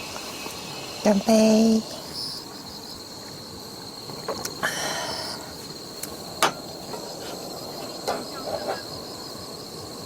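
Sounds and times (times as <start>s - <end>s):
insects chirping in a trill: 0.0s - 10.0s.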